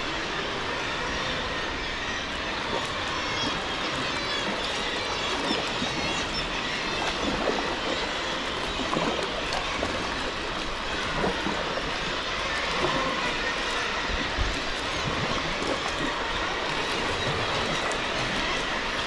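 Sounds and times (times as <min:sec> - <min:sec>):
sea water rushing: 0:00.0 - 0:19.0
seabird colony calling: 0:00.0 - 0:19.0.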